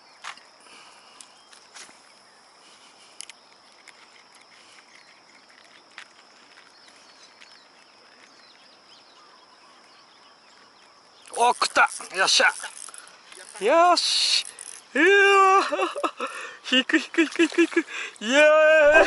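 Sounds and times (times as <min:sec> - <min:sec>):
insect chirring: 0:00.0 - 0:16.5.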